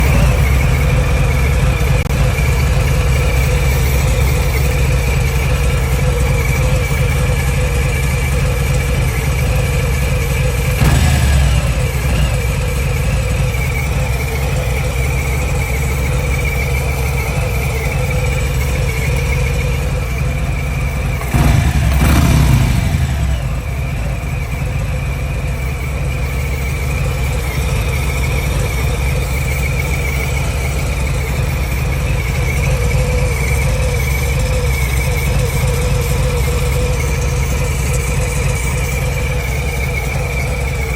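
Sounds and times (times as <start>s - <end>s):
engine revving: 0.0s - 40.9s
motorcycle engine idling: 0.0s - 40.9s.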